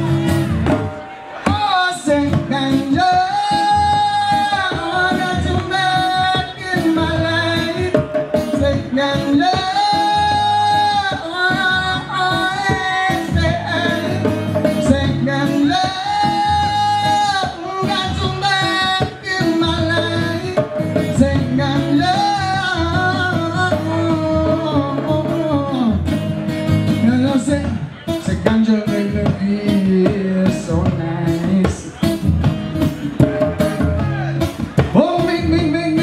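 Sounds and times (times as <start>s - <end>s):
strummed acoustic guitar: 0.0s - 36.0s
man singing: 1.4s - 36.0s
hand drum: 2.3s - 36.0s.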